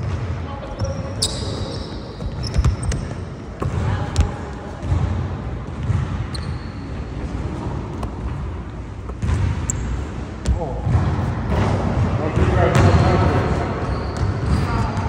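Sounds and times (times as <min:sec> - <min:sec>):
basketball bouncing on court: 0:00.0 - 0:06.7, 0:09.1 - 0:15.0
sneakers squeaking on floor: 0:00.0 - 0:08.3, 0:08.9 - 0:15.0.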